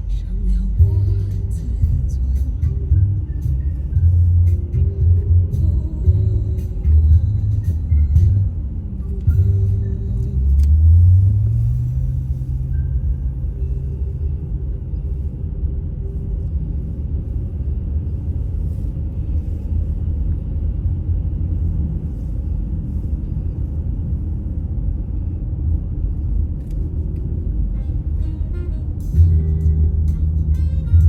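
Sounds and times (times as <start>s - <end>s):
car engine rumble: 0.0s - 31.0s
tyre road noise: 0.0s - 31.0s.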